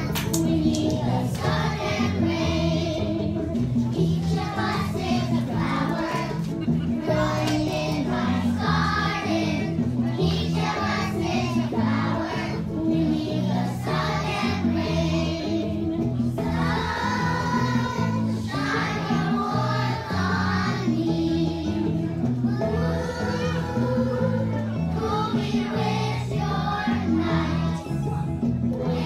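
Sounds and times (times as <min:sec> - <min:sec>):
children singing together: 0:00.0 - 0:28.0
backing music with bass line: 0:00.0 - 0:29.0.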